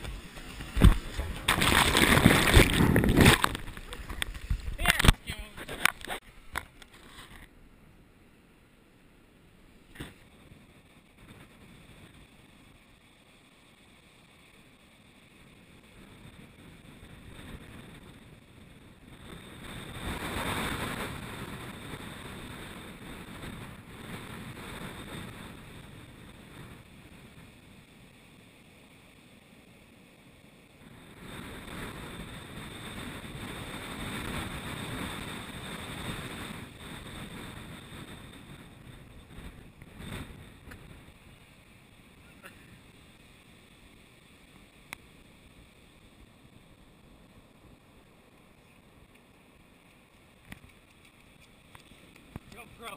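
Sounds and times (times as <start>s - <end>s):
muffled ocean surf: 0.0s - 52.9s.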